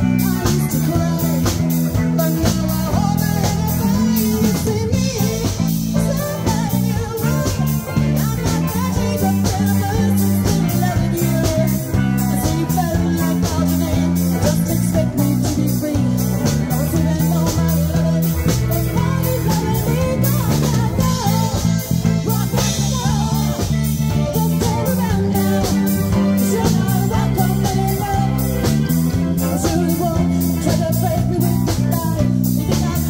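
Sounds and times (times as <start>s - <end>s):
drum kit: 0.0s - 33.0s
electric bass: 0.0s - 33.0s
live rock band playing: 0.0s - 33.0s.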